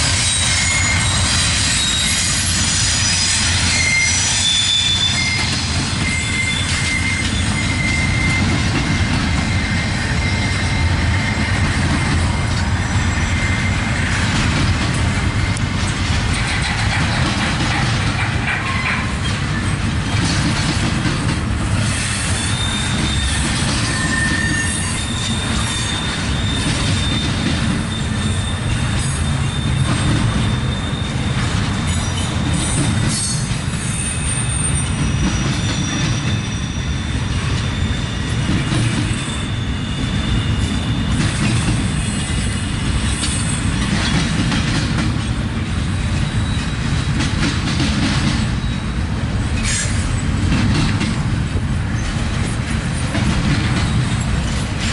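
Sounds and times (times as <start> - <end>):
train wheels rumbling on rail: 0.0 - 54.9
wheel squeals: 0.2 - 17.0, 21.8 - 44.4, 45.2 - 47.3, 48.2 - 51.0.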